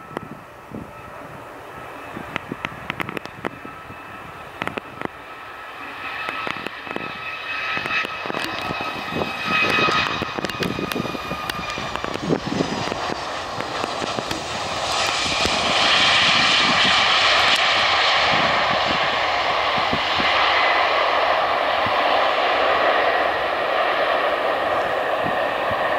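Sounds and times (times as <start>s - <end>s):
jet engines whining and roaring: 0.0s - 25.9s.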